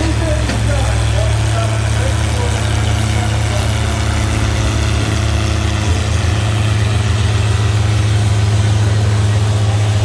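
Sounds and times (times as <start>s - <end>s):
tractor engine droning: 0.0s - 10.0s.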